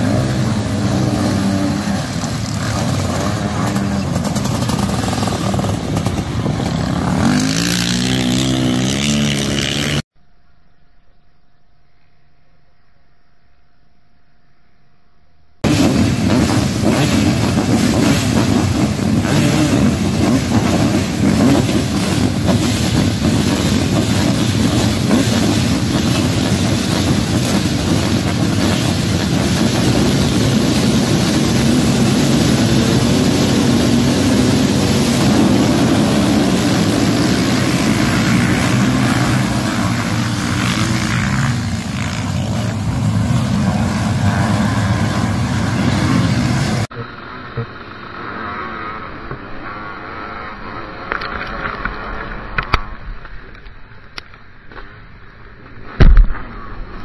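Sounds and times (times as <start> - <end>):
many motocross engines racing: 0.0 - 10.0, 15.6 - 54.0.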